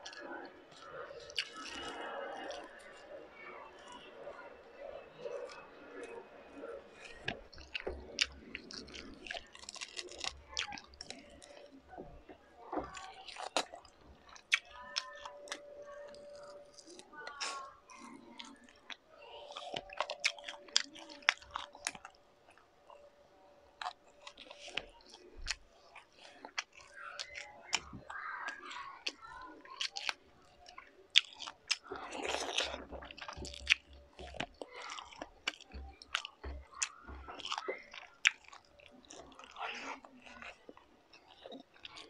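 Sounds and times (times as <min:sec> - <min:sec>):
chewing food: 0:00.0 - 0:42.0.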